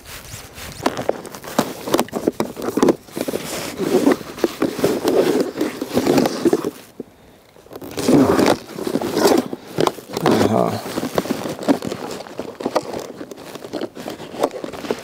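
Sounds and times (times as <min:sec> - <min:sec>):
clothing rubbing on microphone: 0:00.0 - 0:07.0, 0:07.8 - 0:15.0
plastic box rustling and clicking: 0:00.8 - 0:15.0.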